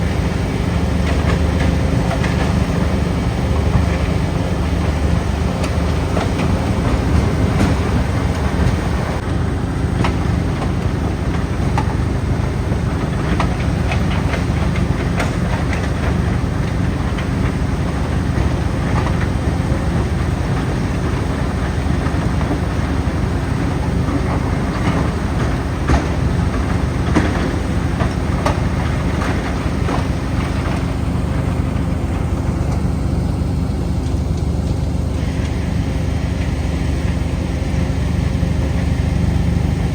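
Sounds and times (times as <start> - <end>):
asphalt chunks clattering in crusher: 0.0 - 39.9
diesel engine drone: 0.0 - 39.9.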